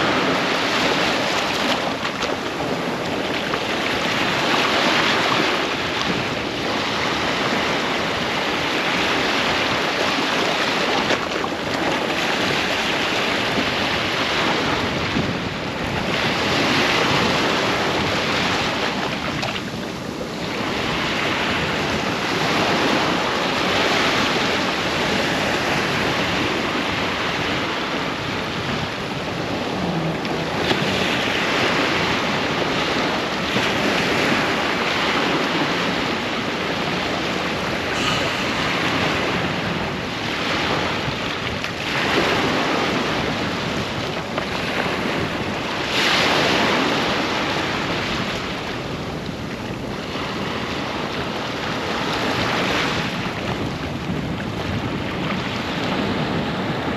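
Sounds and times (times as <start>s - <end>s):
ocean waves breaking on a beach: 0.0s - 56.9s
wind buffeting the microphone: 0.0s - 56.9s.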